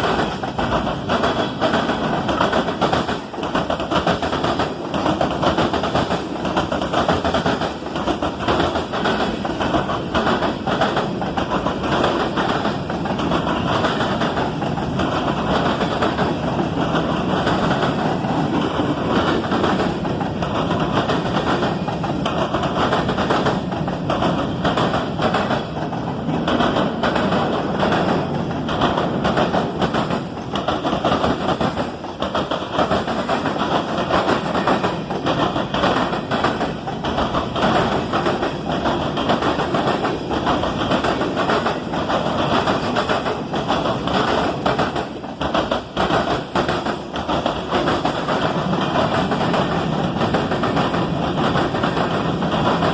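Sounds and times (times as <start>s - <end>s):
train wheels rumbling on rails: 0.0s - 52.9s
wheels clicking over rail joints: 0.0s - 52.9s.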